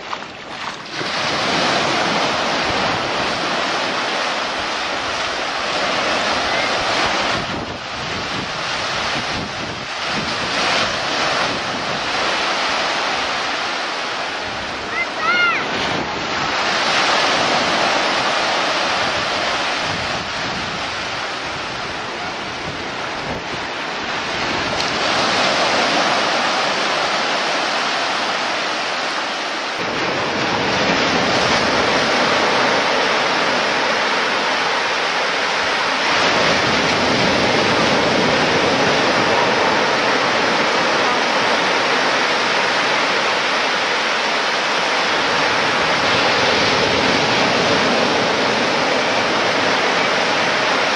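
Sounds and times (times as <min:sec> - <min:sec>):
sea surf rushing: 0:00.0 - 0:50.9
wind: 0:00.0 - 0:50.9.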